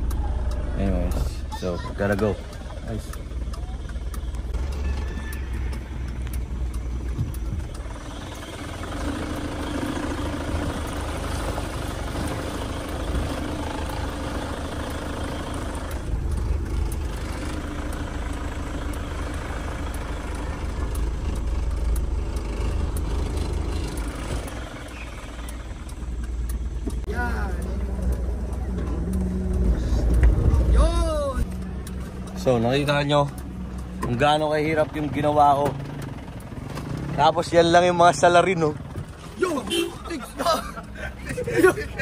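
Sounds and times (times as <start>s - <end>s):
car engine running: 0.0s - 42.0s
tyres on rocky ground: 0.0s - 42.0s.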